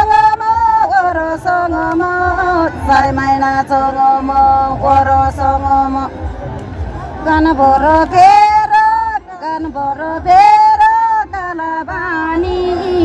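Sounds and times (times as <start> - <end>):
woman singing folk song: 0.0 - 6.2, 7.2 - 13.0.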